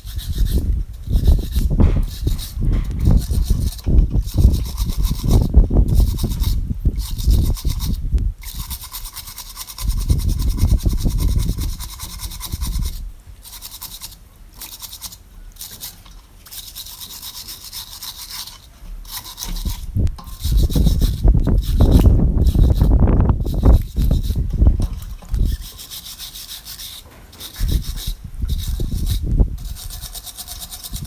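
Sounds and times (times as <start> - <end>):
scrubbing on hard surface: 0.0 - 31.0.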